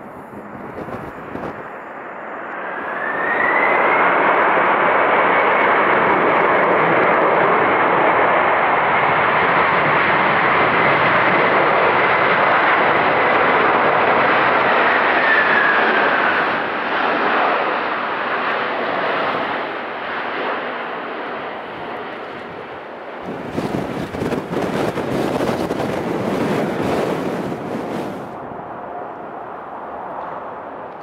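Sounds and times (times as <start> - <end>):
jet engine with fan whine: 0.0 - 31.0.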